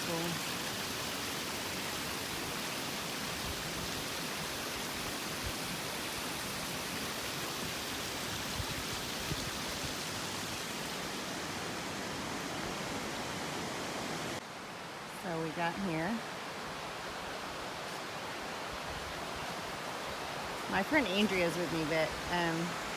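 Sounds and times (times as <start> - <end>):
waterfall cascading: 0.0 - 22.9.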